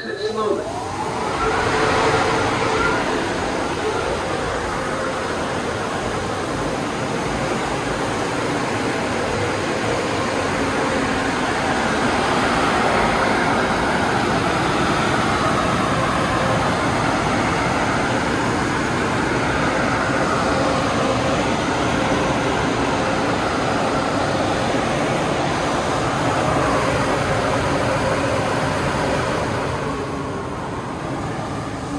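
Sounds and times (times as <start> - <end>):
car wash dryer blowers: 0.0 - 31.9.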